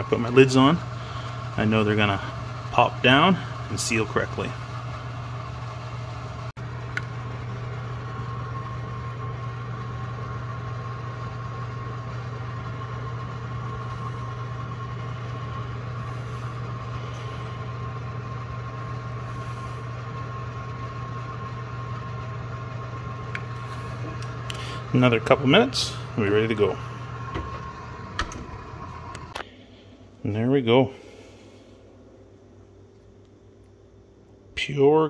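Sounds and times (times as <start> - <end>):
oven fan humming: 0.0 - 35.0.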